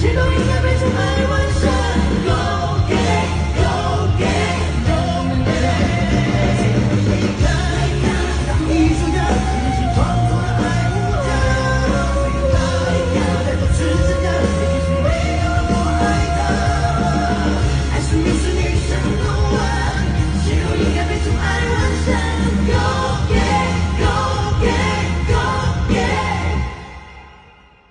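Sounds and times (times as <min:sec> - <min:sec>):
woman singing: 0:00.0 - 0:26.5
rock band with heavy bass: 0:00.0 - 0:27.9.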